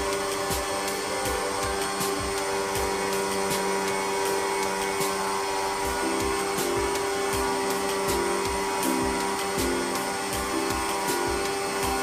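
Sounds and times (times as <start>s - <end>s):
pressure washer motor drone: 0.0s - 12.0s
water jet hissing: 0.0s - 12.0s.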